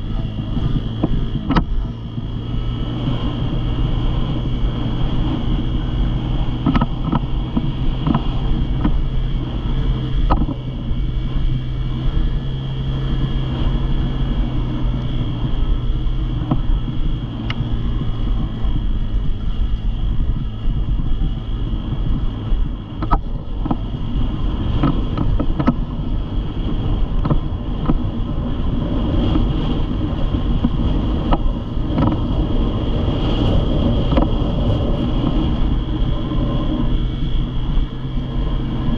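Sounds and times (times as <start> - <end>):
dirt bike engine running: 0.0 - 38.9
wind on microphone: 0.0 - 38.9.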